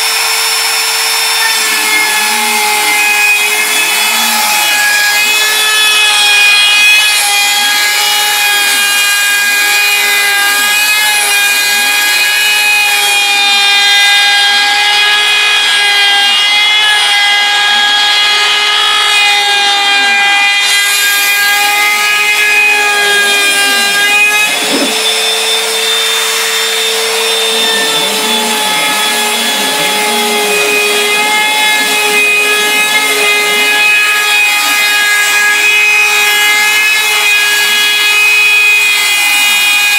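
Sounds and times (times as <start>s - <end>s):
high router motor whine: 0.0s - 39.9s
rasping cutting noise: 0.0s - 39.9s.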